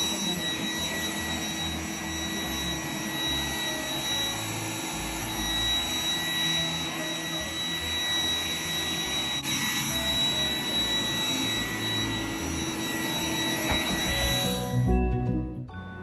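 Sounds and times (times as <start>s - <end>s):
robot vacuum whirring: 0.0s - 14.8s.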